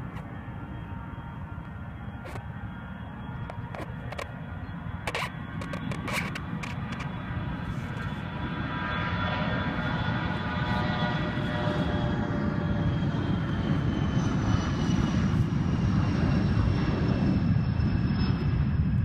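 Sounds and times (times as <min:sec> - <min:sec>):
jet engines roaring at takeoff: 0:00.0 - 0:19.0.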